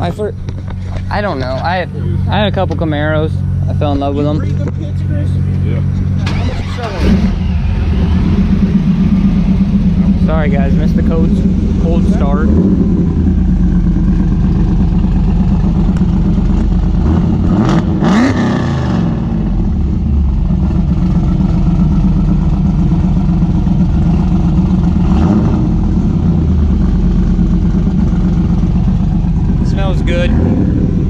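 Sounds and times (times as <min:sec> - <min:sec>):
car engine revving: 0:01.7 - 0:31.0.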